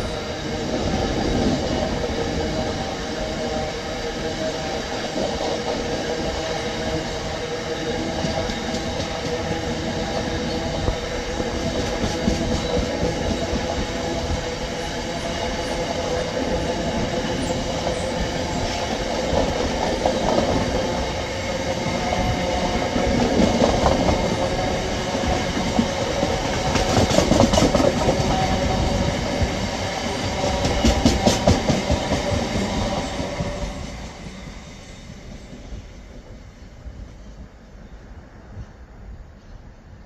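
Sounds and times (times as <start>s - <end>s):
train wheels on rails: 0.0s - 39.5s.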